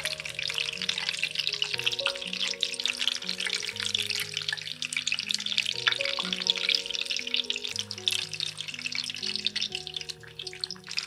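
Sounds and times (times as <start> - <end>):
deep-frying crackling sizzle: 0.0 - 11.0
soft background music: 0.0 - 11.0.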